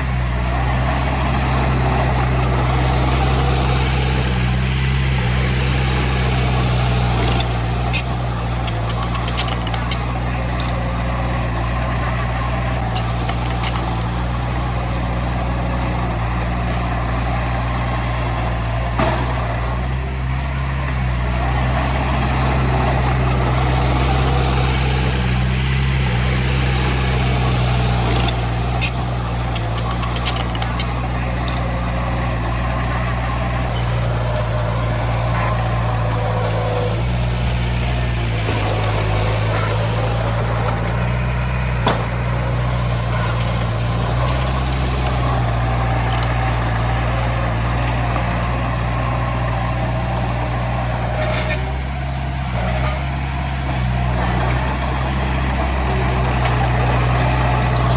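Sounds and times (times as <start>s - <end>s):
diesel engine running: 0.0s - 57.9s
clicks and rattles: 0.5s - 18.0s, 20.8s - 57.9s.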